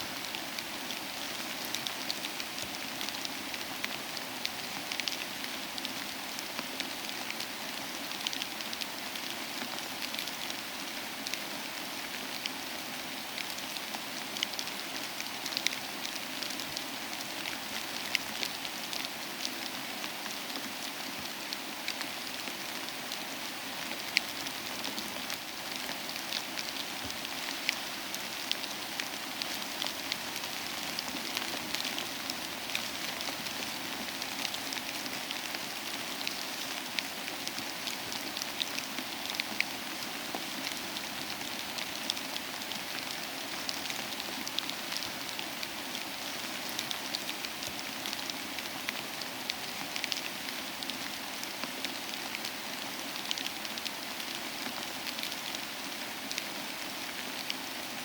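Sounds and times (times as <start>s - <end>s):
soft rain: 0.0s - 58.0s.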